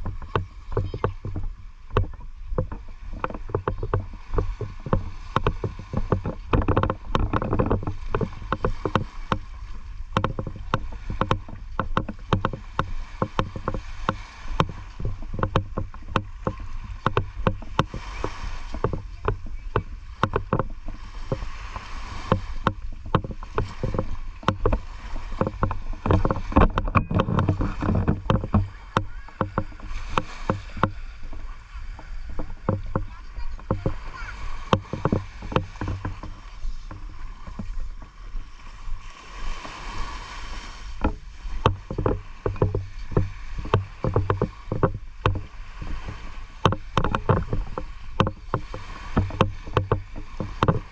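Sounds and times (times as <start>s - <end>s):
seawater sloshing and splashing: 0.0s - 50.9s.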